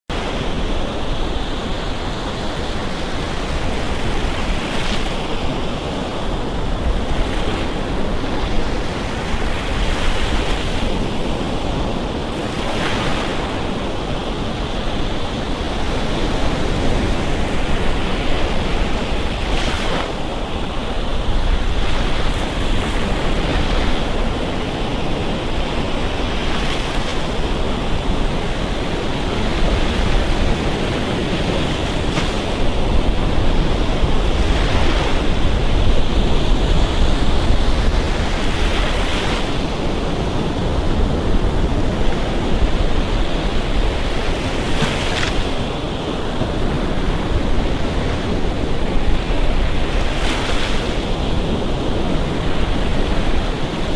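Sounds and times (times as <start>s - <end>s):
small waves breaking on beach: 0.1s - 53.9s.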